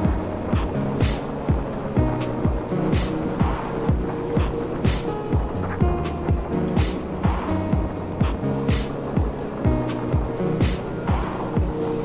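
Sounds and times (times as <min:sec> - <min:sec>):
thumping kick drum: 0:00.0 - 0:11.8.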